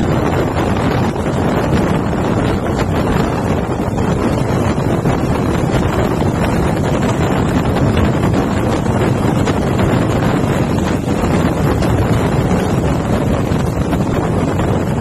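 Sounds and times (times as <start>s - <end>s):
low bus rumble: 0.0s - 15.0s
wind buffeting microphone: 0.0s - 15.0s.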